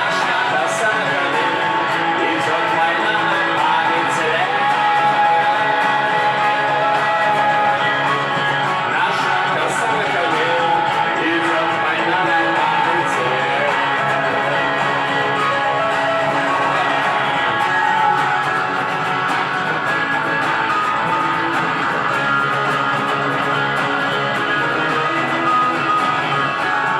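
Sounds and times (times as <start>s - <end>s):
instrumental guitar music: 0.0s - 26.9s.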